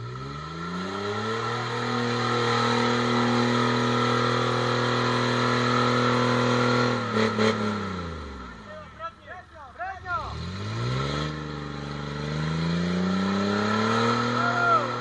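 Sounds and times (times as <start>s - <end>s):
jeep engine revving: 0.0s - 9.1s, 10.0s - 15.0s.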